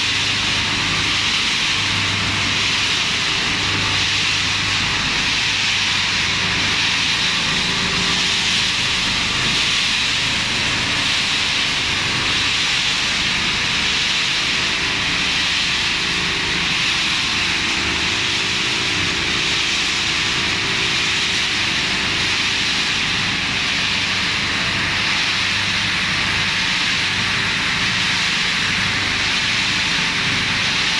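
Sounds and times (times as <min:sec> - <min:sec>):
strong hiss: 0:00.0 - 0:30.9.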